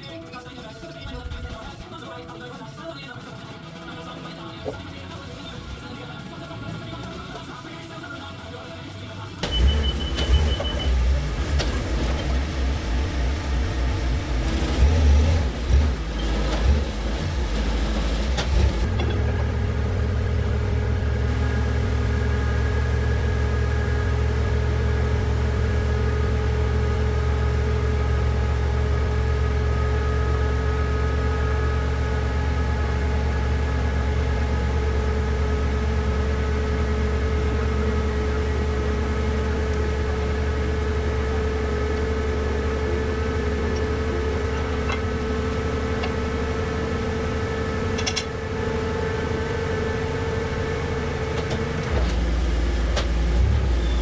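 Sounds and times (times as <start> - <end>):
motor humming: 9.4 - 54.0.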